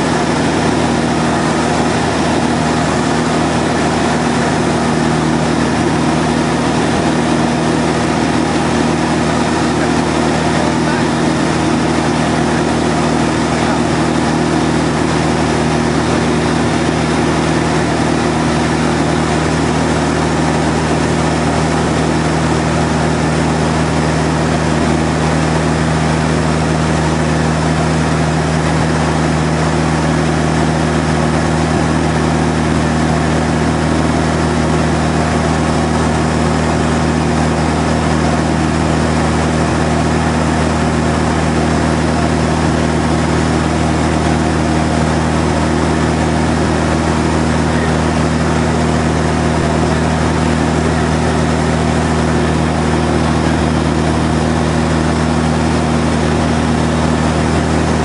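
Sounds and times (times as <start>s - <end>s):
light airplane engine droning: 0.0s - 58.0s.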